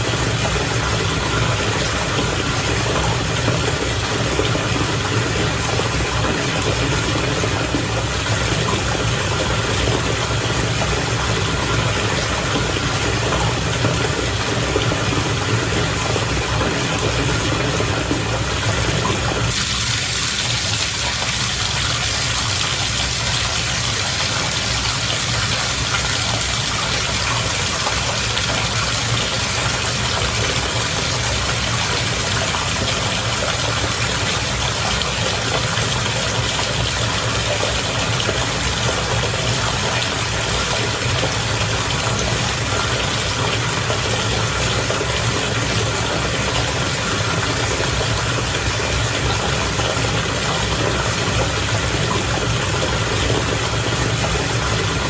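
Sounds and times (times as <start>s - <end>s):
bathwater bubbling and churning: 0.0s - 55.0s.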